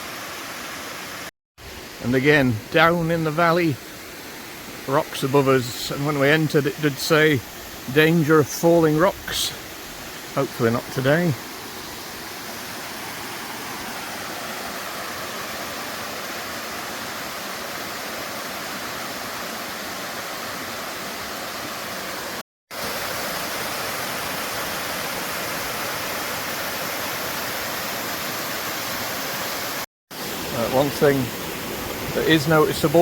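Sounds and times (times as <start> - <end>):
stream and waterfall rushing: 0.0 - 33.0.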